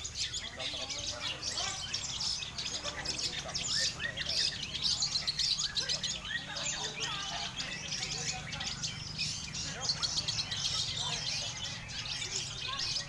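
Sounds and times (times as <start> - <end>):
chorus of birds singing: 0.0 - 13.0.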